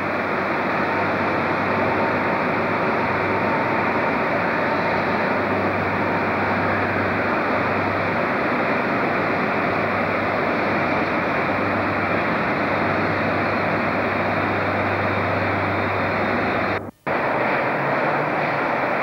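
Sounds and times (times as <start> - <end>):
diesel train engine rumble: 0.0 - 19.0.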